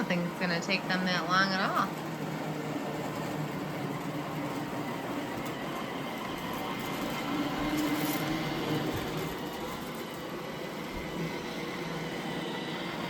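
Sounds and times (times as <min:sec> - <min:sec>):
robot vacuums whirring: 0:00.0 - 0:13.0.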